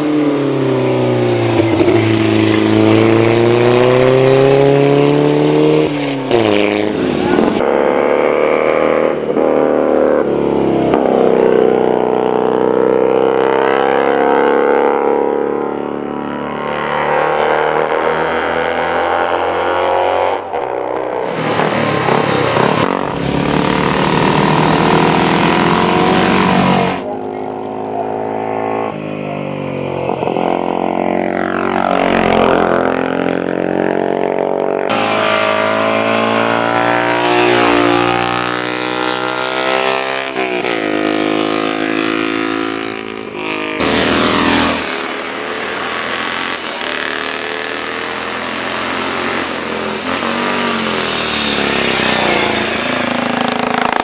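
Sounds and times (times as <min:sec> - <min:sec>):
racing motorcycle engines revving: 0:00.0 - 0:54.0.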